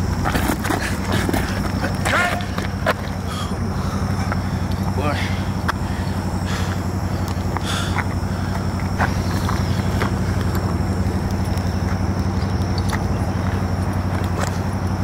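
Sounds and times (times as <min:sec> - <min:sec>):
quad bike engine idling: 0:00.0 - 0:15.0.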